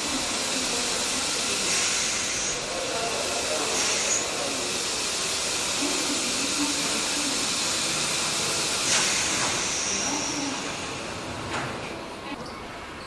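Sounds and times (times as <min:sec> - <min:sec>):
hiss burst with high tone: 0:00.0 - 0:11.4
faint voices: 0:00.0 - 0:12.4
loud steady hiss: 0:00.0 - 0:13.0.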